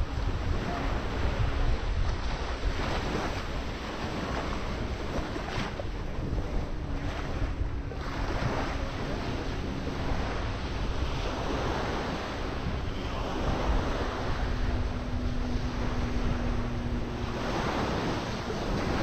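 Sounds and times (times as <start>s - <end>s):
faint steady hum: 0.0s - 19.0s
waves washing onto sand: 0.0s - 19.0s
wind buffeting microphone: 0.0s - 19.0s.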